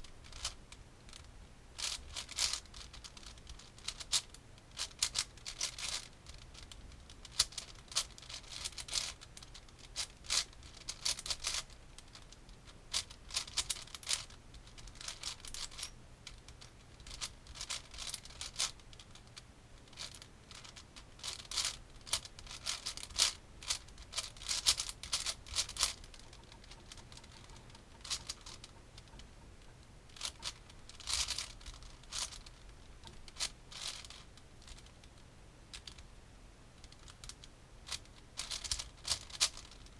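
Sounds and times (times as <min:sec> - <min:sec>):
plastic puzzle cube clicking: 0:00.2 - 0:29.2, 0:30.1 - 0:36.0, 0:36.8 - 0:39.9.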